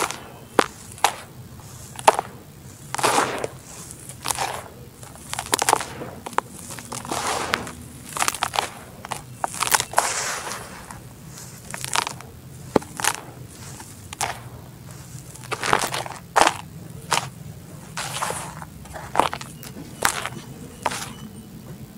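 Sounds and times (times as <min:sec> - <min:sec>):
loose dirt pouring: 0:00.0 - 0:21.3
dirt crunching by hand: 0:00.0 - 0:21.9.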